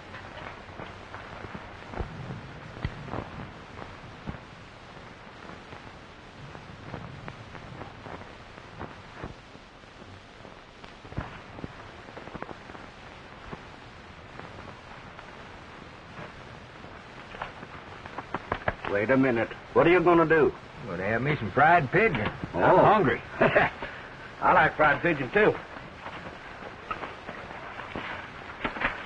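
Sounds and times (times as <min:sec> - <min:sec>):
faint crackles and clicks: 0:00.0 - 0:29.0
film soundtrack hiss: 0:00.0 - 0:29.0.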